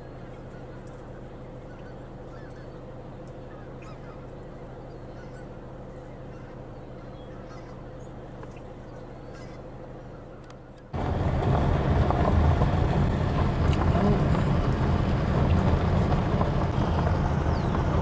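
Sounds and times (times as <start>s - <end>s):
distant geese honking: 0.0s - 18.0s
low steady hum: 0.0s - 18.0s.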